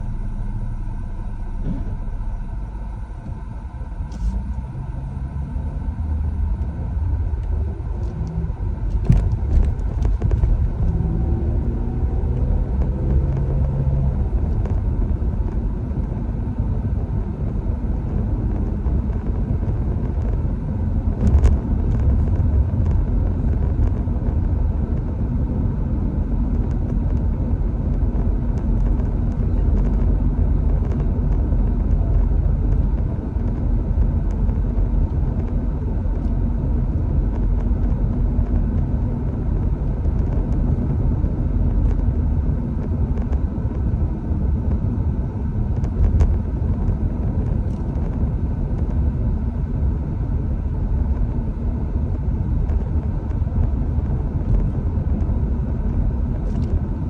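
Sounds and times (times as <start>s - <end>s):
vehicle rumble: 0.0s - 57.0s.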